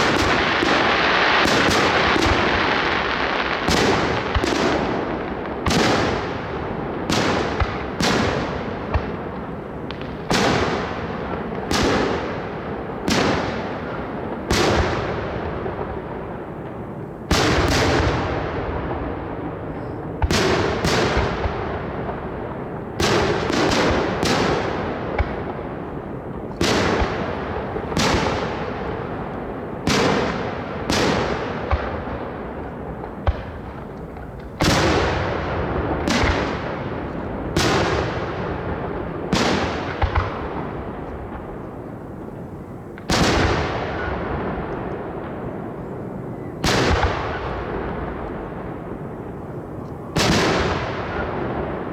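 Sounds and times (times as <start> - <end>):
fireworks bangs with rumbling echo: 0.0 - 51.9.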